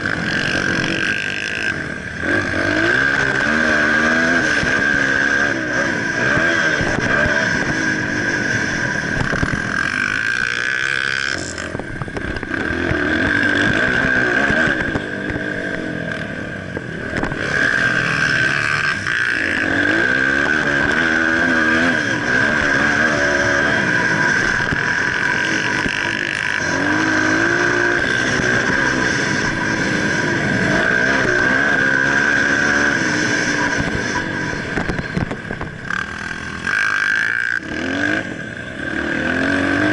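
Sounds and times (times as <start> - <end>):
dirt bike engine revving: 0.0 - 39.9
steady high whine: 0.0 - 39.9.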